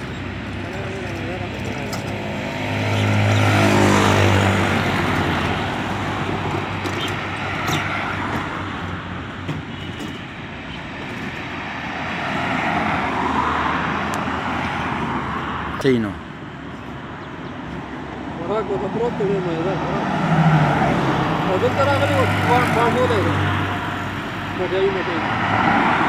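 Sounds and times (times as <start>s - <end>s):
vehicles passing on road: 0.0s - 26.0s.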